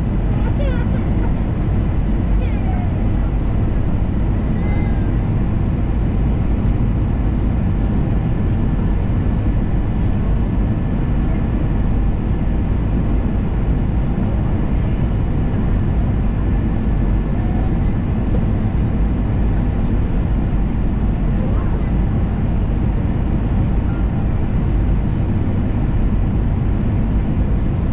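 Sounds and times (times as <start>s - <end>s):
airliner cabin rumble: 0.0s - 27.9s.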